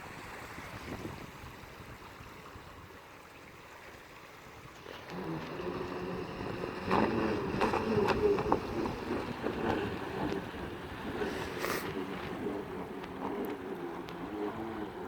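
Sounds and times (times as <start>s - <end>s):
water and wind hiss: 0.0s - 15.0s.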